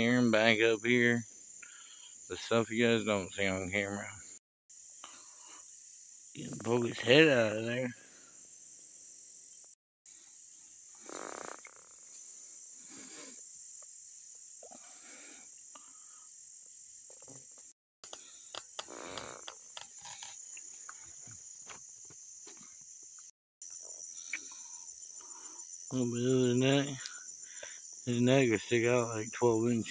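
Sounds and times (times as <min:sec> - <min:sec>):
crickets chirring: 0:00.0 - 0:29.9.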